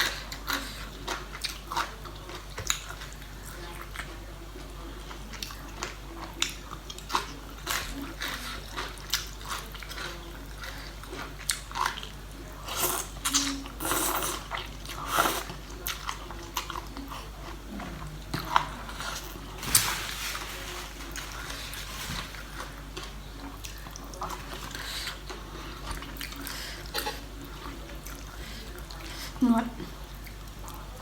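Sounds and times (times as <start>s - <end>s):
person chewing food: 0.0s - 19.9s, 20.5s - 30.9s.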